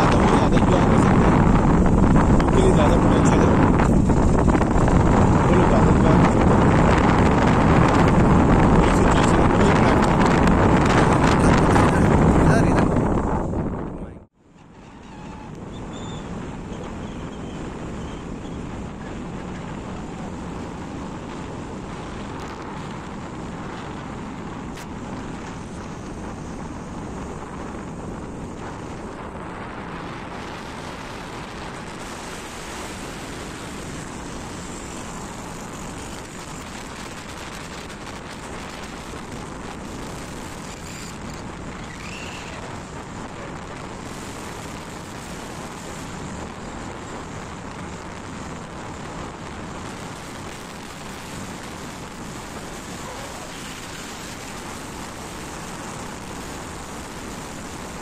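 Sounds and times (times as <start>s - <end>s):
vehicle road and wind noise: 0.0s - 58.0s.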